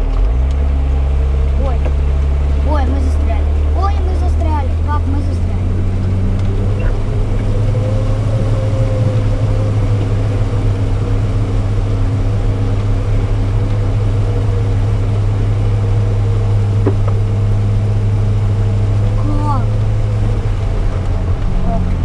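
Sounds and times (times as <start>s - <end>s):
vehicle engine running steadily: 0.0s - 22.0s.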